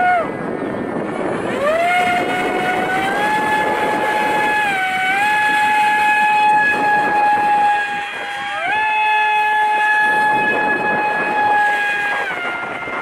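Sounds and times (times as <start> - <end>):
electric motor and propeller whine: 0.0 - 13.0.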